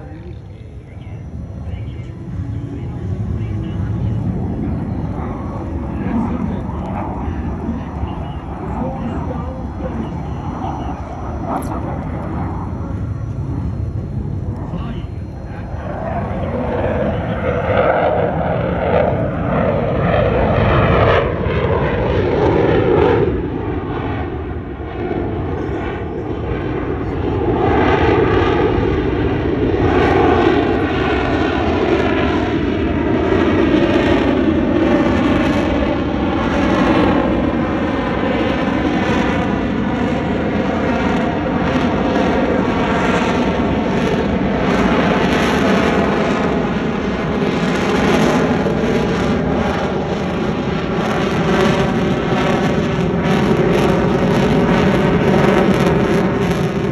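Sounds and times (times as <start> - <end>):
fighter jet engine roar: 0.0 - 56.9.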